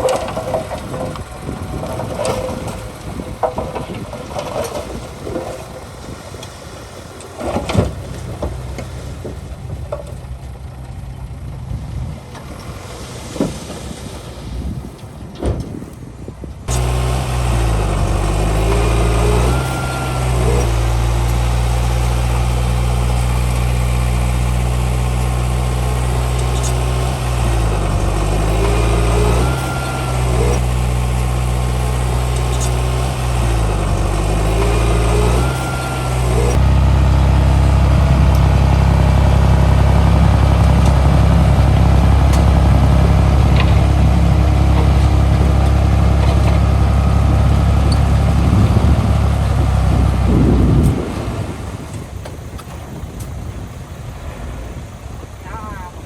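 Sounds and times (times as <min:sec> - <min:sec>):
heavy diesel engines working: 0:00.0 - 0:56.0.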